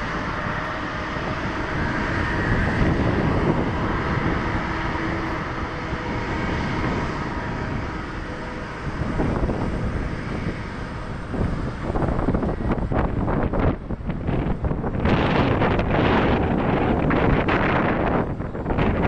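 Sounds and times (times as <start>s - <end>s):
jet engines roaring: 0.0s - 19.0s
wind buffeting microphone: 0.0s - 19.0s.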